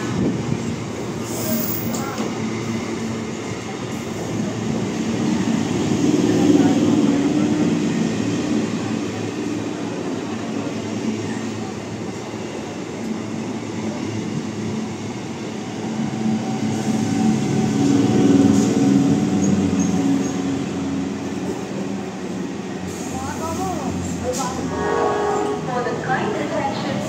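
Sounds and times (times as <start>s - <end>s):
train rumbling over rails: 0.0s - 27.0s.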